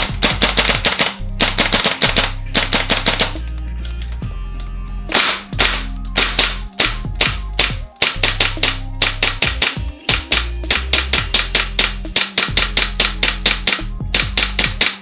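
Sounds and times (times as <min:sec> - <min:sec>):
airsoft guns firing bursts: 0:00.0 - 0:03.4, 0:05.1 - 0:15.0
background music with bass: 0:00.0 - 0:15.0.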